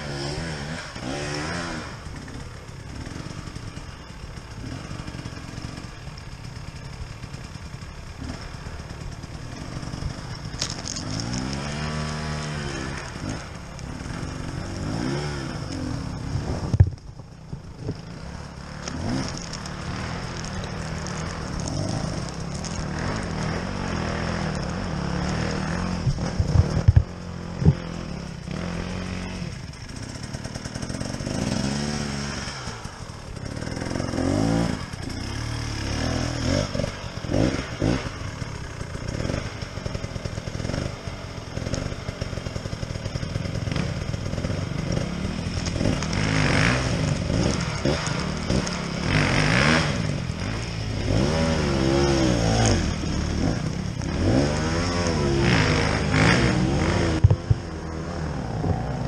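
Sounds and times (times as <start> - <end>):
dirt bike engines revving: 0.0 - 59.0
low engine drone: 0.0 - 59.0.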